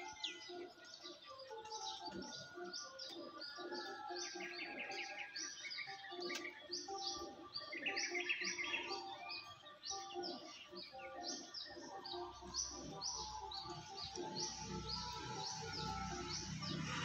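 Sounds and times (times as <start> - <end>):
bird twittering: 0.0 - 17.0
small bird high chirp: 0.0 - 17.0.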